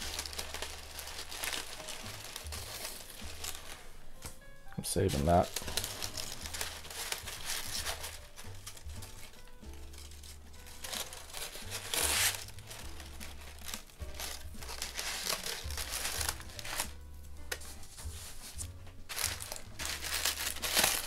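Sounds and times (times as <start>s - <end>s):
paper wrapping crinkling: 0.0s - 21.0s.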